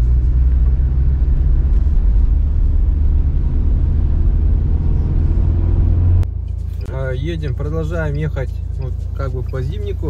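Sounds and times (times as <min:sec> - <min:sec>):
low rumble of engine and tyres: 0:00.0 - 0:10.0.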